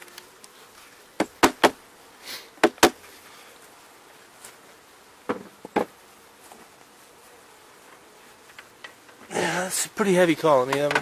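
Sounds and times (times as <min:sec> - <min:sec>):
honey bees humming: 0:00.0 - 0:11.0.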